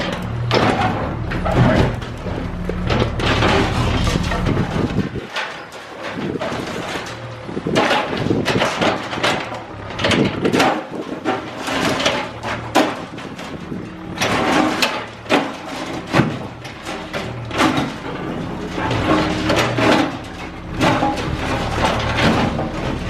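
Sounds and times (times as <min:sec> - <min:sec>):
concrete and steel crashing: 0:00.0 - 0:23.0
excavator engine running: 0:00.0 - 0:23.0.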